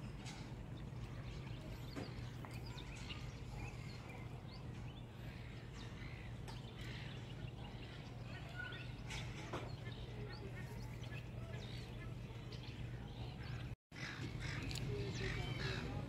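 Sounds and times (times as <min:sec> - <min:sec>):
birds chirping: 0:00.0 - 0:16.0
low background hum: 0:00.0 - 0:16.0.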